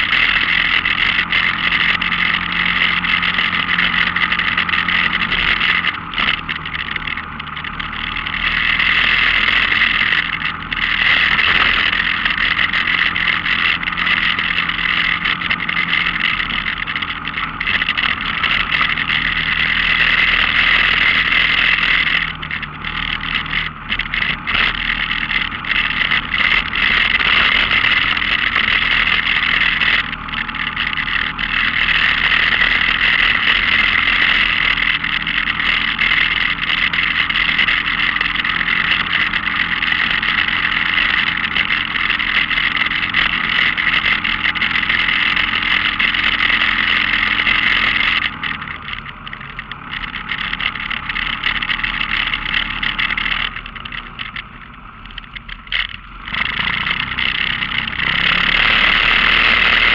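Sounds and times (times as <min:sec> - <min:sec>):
off-road vehicle engine humming: 0:00.0 - 0:59.9.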